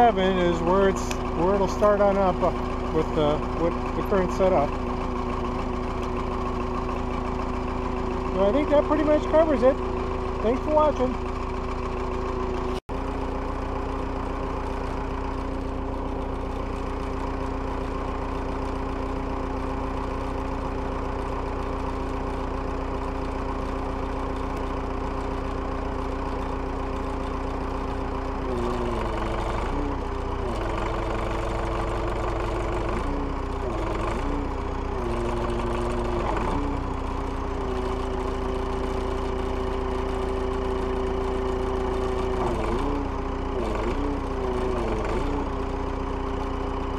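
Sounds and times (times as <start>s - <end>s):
diesel engine idling and revving: 0.0s - 46.9s.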